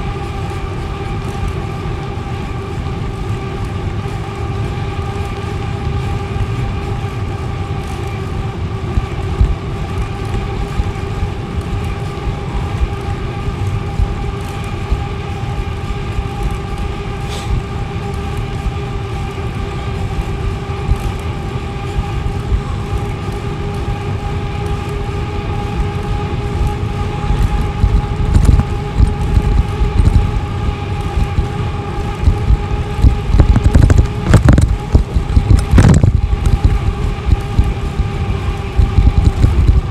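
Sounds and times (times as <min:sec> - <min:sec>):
gusty wind buffeting: 0:00.0 - 0:39.9
steady hum: 0:00.0 - 0:39.9
tyre and wind rumble: 0:00.0 - 0:39.9.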